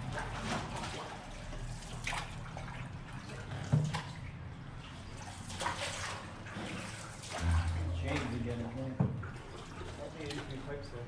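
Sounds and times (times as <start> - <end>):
paddle splashing in water: 0.0 - 4.3, 5.1 - 10.7
steady wash of water: 0.0 - 11.0.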